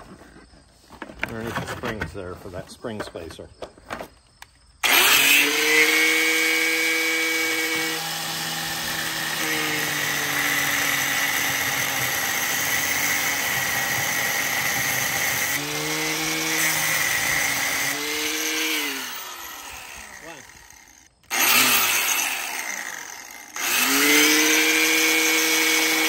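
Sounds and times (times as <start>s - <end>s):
angle grinder cutting steel: 4.8s - 26.0s.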